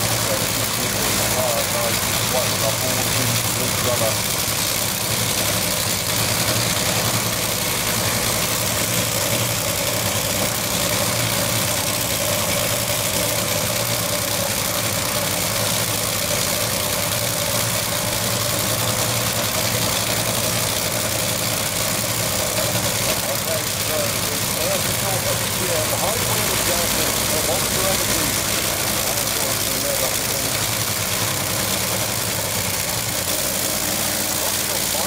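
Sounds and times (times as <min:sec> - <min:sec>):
dragster engine idling: 0:00.0 - 0:35.0.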